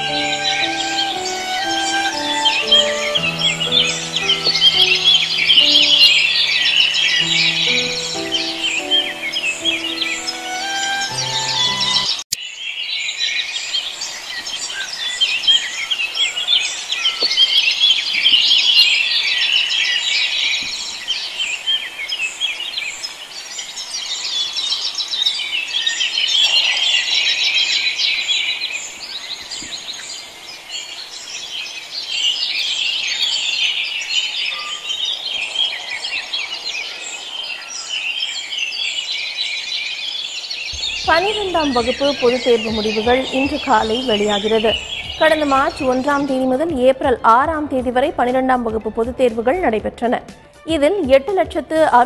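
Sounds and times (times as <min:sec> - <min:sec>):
songbirds chirping: 0:00.0 - 0:50.2.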